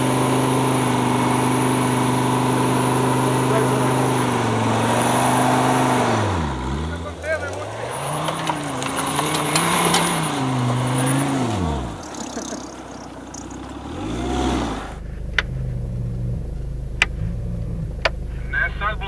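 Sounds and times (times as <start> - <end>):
engine hum inside cabin: 0.0 - 19.0
engine revving: 0.0 - 19.0.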